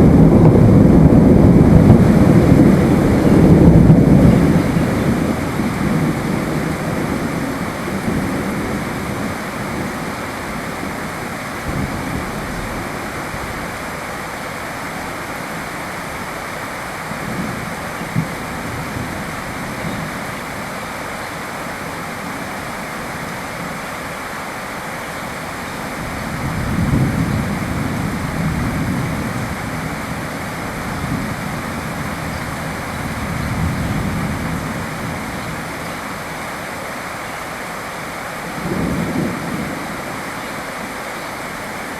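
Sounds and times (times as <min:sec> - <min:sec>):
distant thunder rumbling: 0:00.0 - 0:37.1, 0:38.2 - 0:41.9
steady rain falling: 0:00.0 - 0:41.9.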